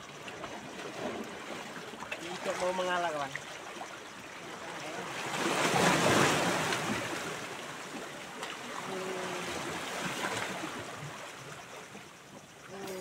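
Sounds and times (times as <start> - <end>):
small waves washing ashore: 0.0 - 13.0.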